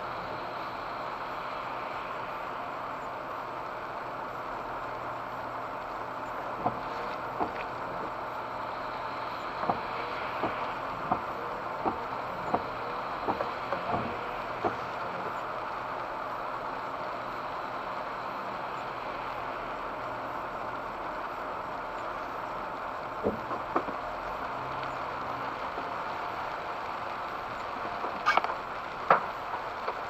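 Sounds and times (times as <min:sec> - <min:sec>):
road and rain noise inside car: 0:00.0 - 0:30.0.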